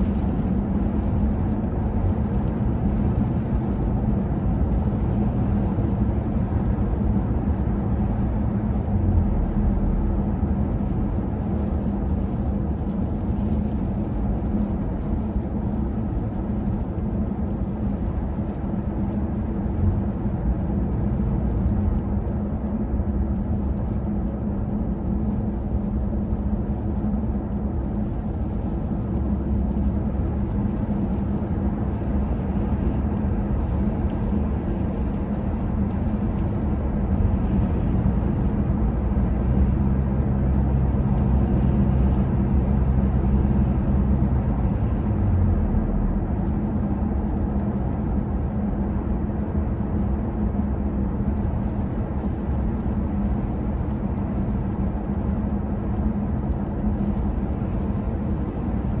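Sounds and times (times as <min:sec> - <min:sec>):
city street traffic rumble: 0:00.0 - 0:59.0.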